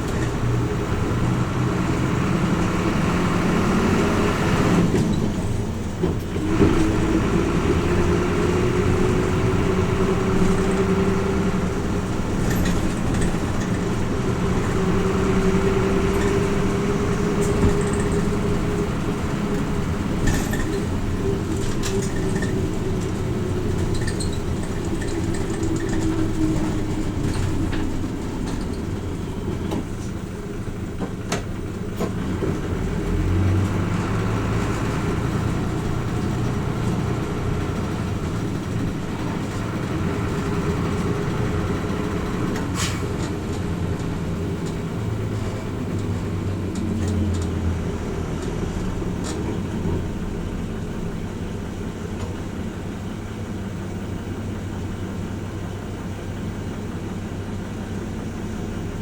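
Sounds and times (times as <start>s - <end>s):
bus diesel engine running: 0.0s - 59.0s
road noise: 0.0s - 59.0s.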